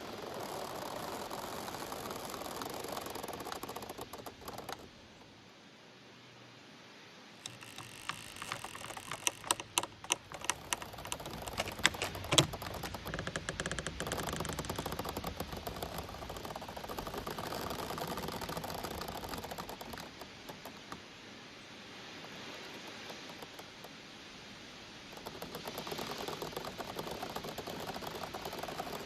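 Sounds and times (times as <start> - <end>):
bamboo stems creaking and knocking: 0.0 - 5.2, 7.4 - 21.1, 22.0 - 24.0, 25.0 - 29.0.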